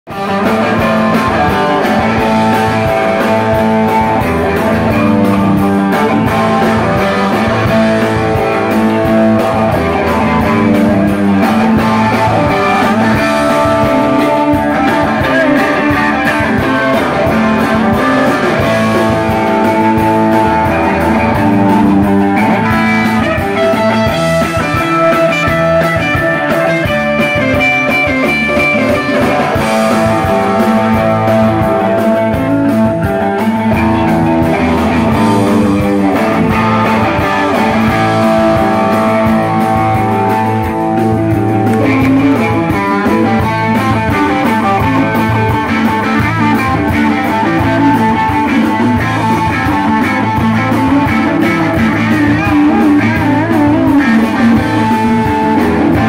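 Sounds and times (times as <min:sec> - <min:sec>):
electric guitars: 0:00.0 - 0:56.0
drum kit beat: 0:00.1 - 0:56.0.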